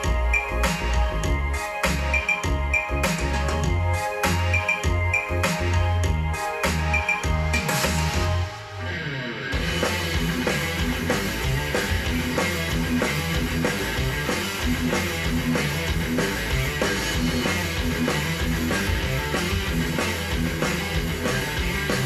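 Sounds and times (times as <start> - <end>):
guitar and drums music: 0.0 - 22.0.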